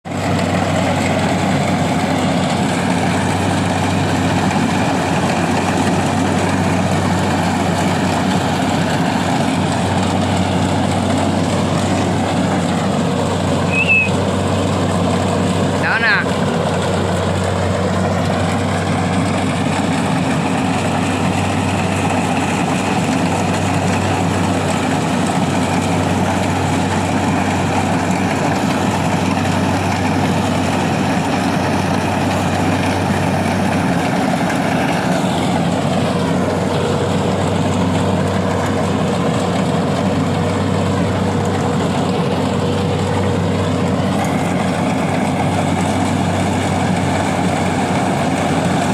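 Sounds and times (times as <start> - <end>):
harvester engine droning: 0.1 - 48.9.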